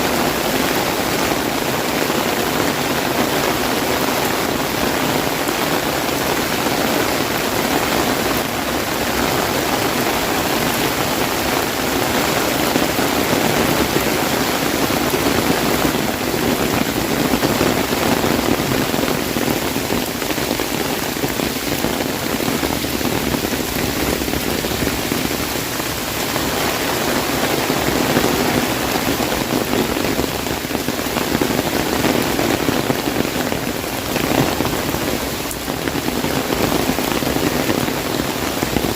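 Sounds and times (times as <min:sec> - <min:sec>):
heavy rain on an umbrella: 0:00.0 - 0:38.9.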